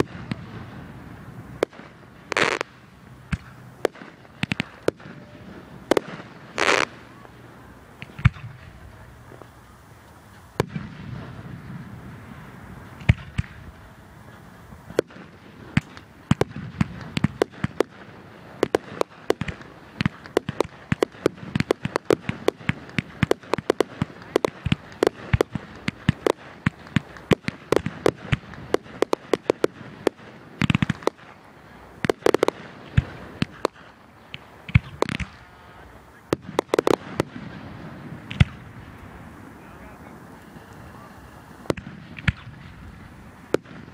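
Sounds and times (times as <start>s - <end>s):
fireworks popping and banging: 0.0s - 43.9s.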